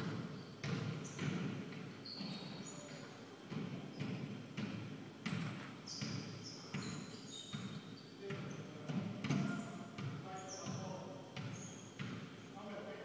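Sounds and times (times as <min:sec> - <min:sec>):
basketball dribbling on wooden floor: 0:00.0 - 0:12.3
sneakers squeaking on floor: 0:00.0 - 0:12.5.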